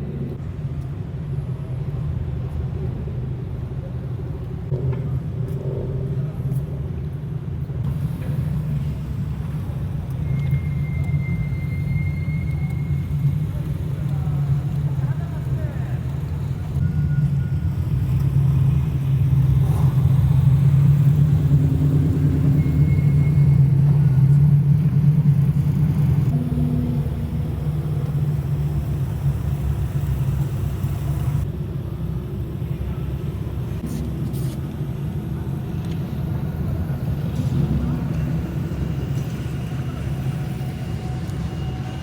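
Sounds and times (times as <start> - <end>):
car exhaust rumbling: 4.2 - 42.0.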